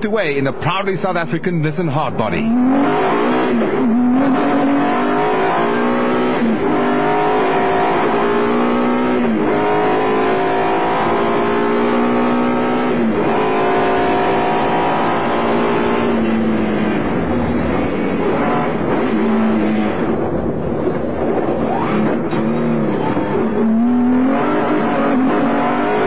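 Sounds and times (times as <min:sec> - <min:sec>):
truck engine accelerating through gears: 0:02.4 - 0:26.0.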